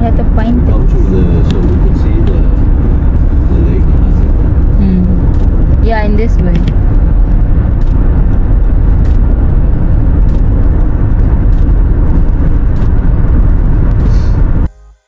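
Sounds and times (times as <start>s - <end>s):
car road and engine rumble: 0.0s - 14.7s.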